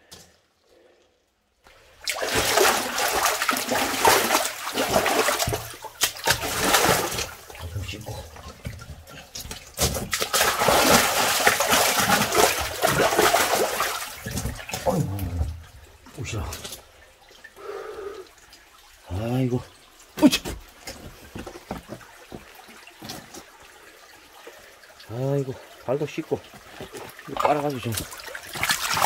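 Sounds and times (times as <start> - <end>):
water splashing in rock pool: 1.7 - 29.0.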